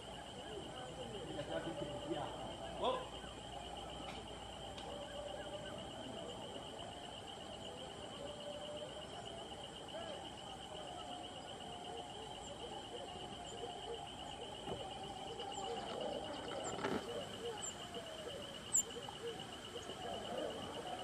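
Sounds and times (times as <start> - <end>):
faint short chirping calls: 0.0 - 21.0
high-pitched insect trill: 0.0 - 21.0.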